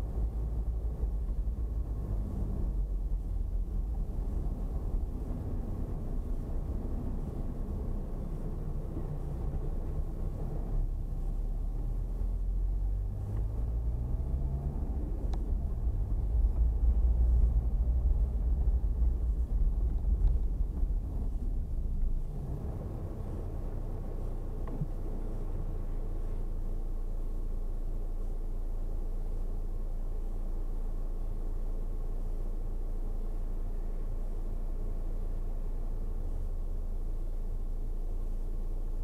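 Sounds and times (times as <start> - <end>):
car engine and road rumble: 0.0 - 39.0.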